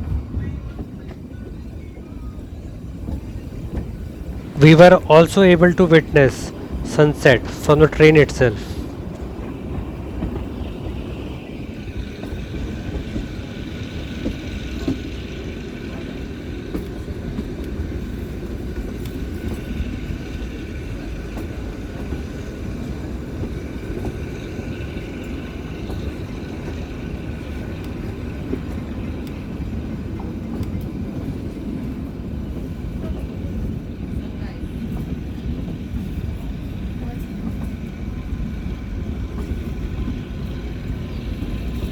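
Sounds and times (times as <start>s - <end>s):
train wheels rumbling on track: 0.0s - 41.9s.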